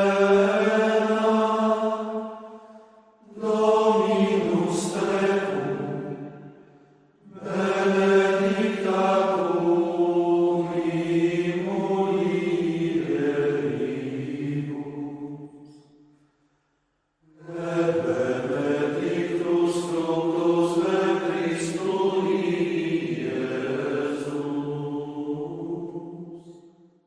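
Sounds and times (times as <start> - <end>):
devotional chant singing: 0.0 - 6.6, 7.2 - 16.0, 17.3 - 26.9.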